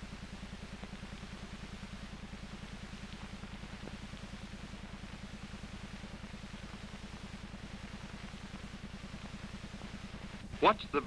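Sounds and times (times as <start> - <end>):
film soundtrack hiss: 0.0 - 11.0
low pulsing hum: 0.0 - 11.0.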